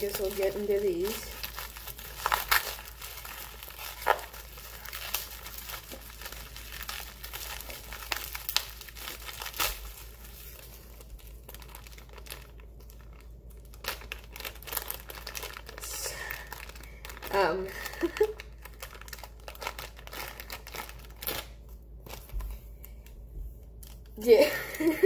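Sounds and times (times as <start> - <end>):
bubble wrap and plastic bag crinkling: 0.0 - 25.0.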